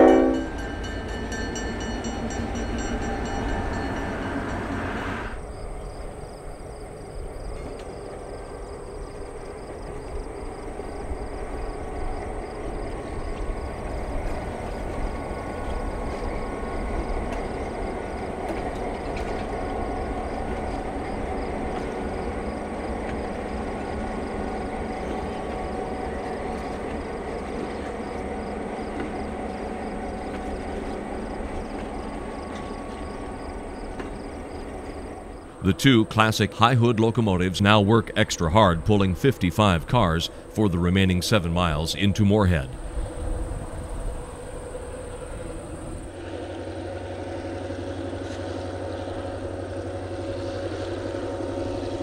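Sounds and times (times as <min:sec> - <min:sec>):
diesel locomotives rumbling: 0:00.0 - 0:52.0.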